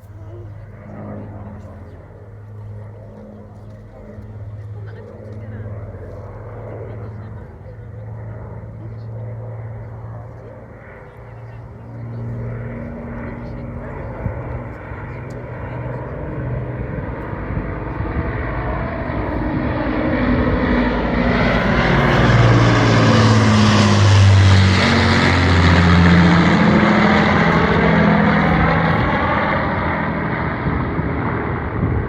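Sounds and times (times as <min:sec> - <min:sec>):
propeller plane engines droning: 0:00.0 - 0:32.0.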